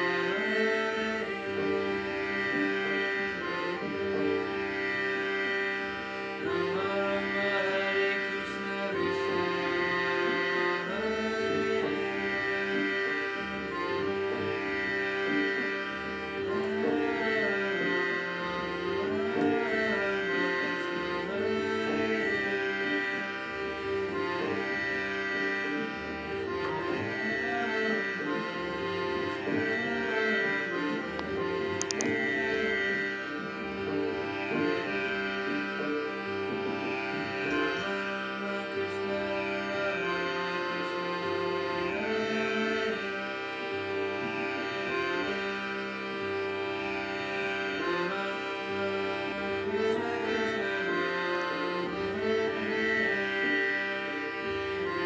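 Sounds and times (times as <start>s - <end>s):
harmonium melody: 0.0s - 55.0s
held drone: 0.0s - 55.0s.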